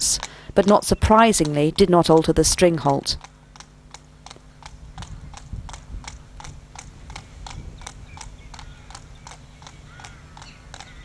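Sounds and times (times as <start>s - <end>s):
horse hooves on tarmac: 0.0s - 11.0s
low background hum: 0.0s - 11.0s.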